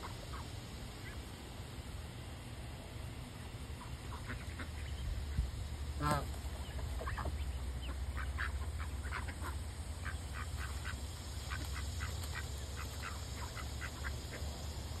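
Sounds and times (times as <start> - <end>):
ducklings peeping: 0.0 - 2.0, 3.0 - 15.0
steady low rumble: 0.0 - 15.0.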